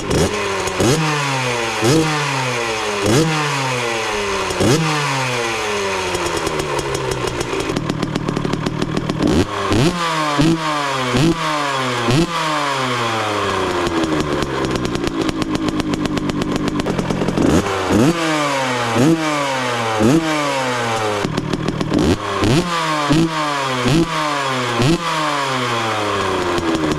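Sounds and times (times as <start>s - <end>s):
two-stroke engine revving: 0.0s - 26.9s.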